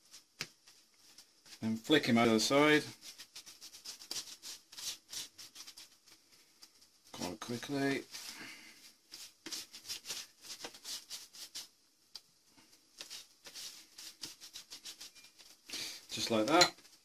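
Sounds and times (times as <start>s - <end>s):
pastry brush brushing and scraping: 0.0s - 11.8s, 12.6s - 17.0s.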